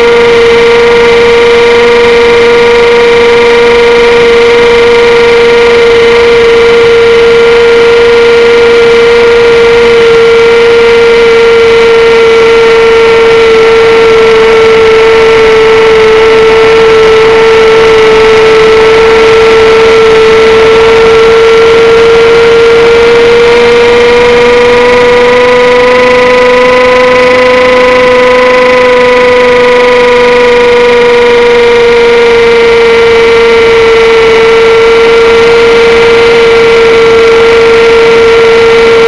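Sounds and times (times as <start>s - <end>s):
air noise: 0.0s - 39.0s
electric motor and propeller whine: 0.0s - 39.0s.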